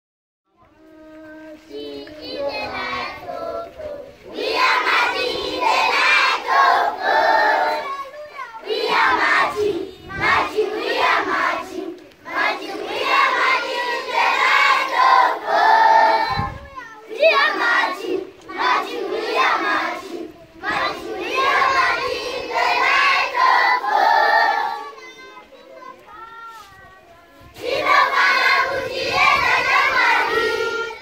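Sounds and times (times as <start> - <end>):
children singing in unison: 0.8 - 25.3, 27.4 - 31.0.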